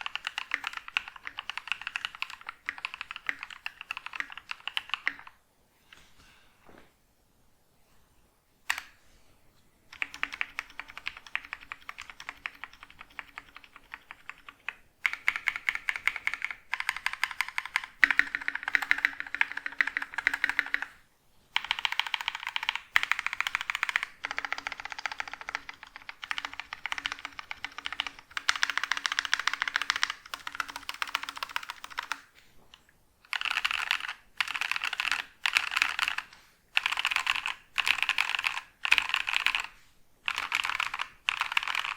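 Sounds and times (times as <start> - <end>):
mechanical keyboard typing: 0.0 - 5.4, 9.9 - 21.0, 21.6 - 32.3, 33.2 - 39.7, 40.3 - 41.9.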